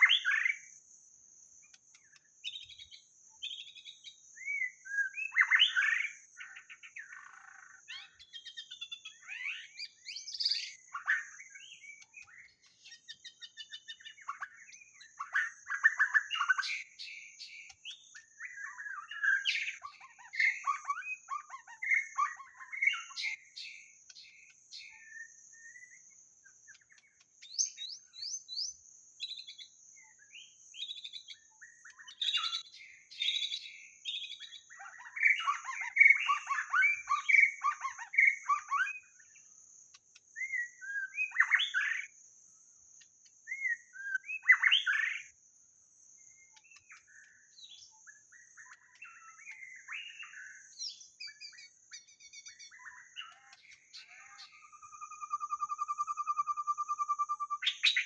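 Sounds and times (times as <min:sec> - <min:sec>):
bird singing whistled phrases: 0:00.0 - 0:00.6, 0:02.5 - 0:26.0, 0:26.7 - 0:39.3, 0:40.4 - 0:42.1, 0:43.5 - 0:45.3, 0:46.4 - 0:58.0.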